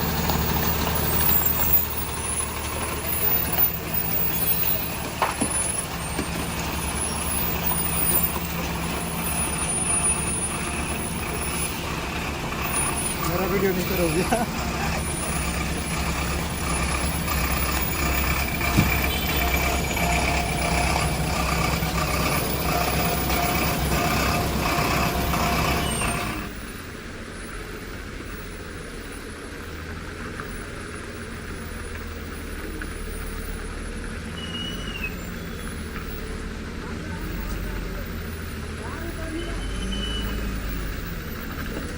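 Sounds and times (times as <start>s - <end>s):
engine whine: 0.0s - 41.9s
truck engine running: 0.0s - 41.9s.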